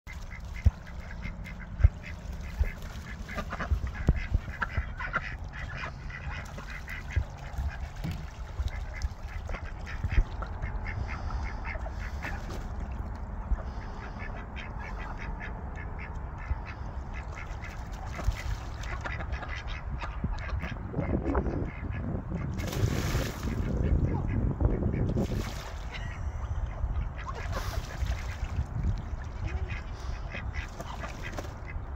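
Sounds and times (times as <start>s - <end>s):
ducks quacking: 0.1s - 22.8s, 23.4s - 31.9s.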